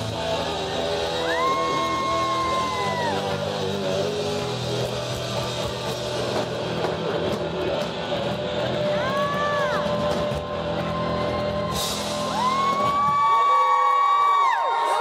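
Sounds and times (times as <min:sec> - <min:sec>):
live rock band playing: 0:00.0 - 0:13.3.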